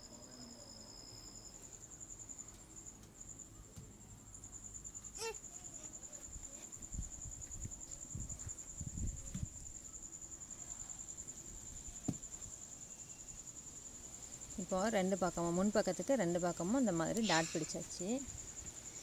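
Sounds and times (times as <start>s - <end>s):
high-pitched insect trill: 0.0s - 19.0s.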